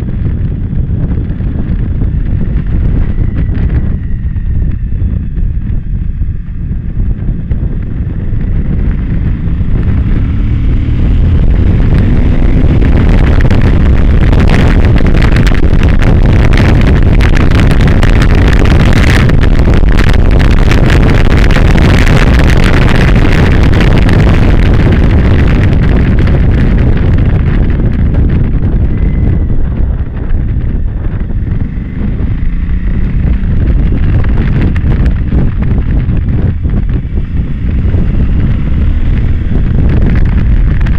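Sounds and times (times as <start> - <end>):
motorcycle engine accelerating: 0.0 - 40.9
wind rush on microphone: 0.0 - 40.9.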